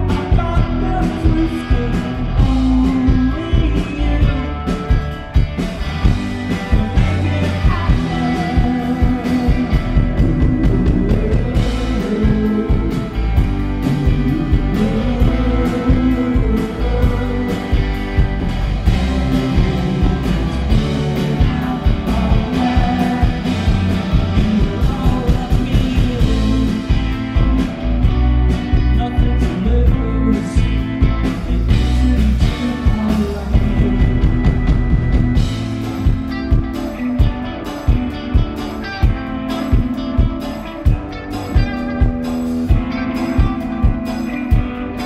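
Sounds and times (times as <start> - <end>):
lead voice singing: 0.0 - 45.0
live rock band playing: 0.0 - 45.0.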